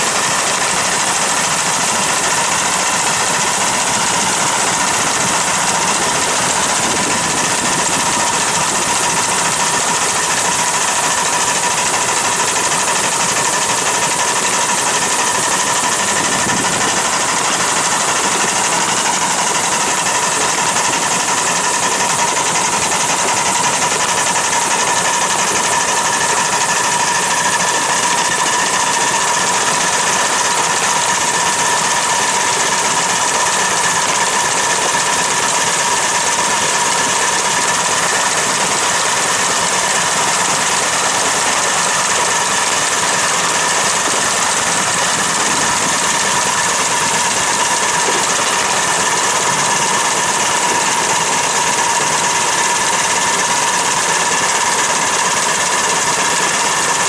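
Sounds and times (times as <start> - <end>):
machine running with high hum: 0.0 - 57.0.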